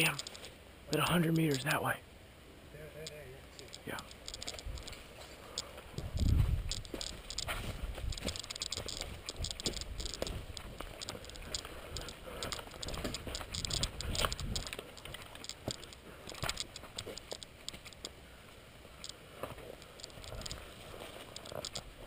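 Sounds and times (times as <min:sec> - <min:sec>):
rustling with light clicks: 0:00.0 - 0:01.7, 0:03.0 - 0:22.0.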